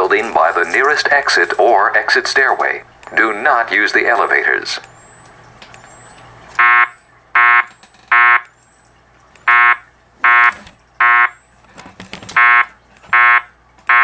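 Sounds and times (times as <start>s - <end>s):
fire alarm horn beeps: 0.0s - 11.6s, 12.3s - 14.0s.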